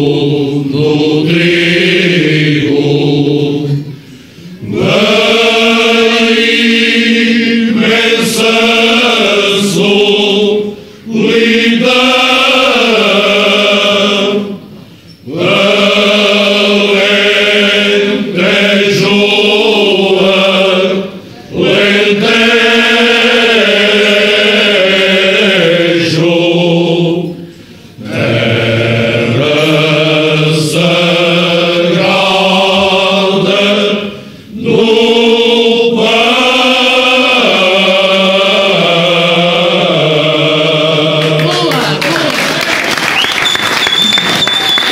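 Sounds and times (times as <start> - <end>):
male choir singing unaccompanied: 0.0 - 4.0, 4.6 - 41.5.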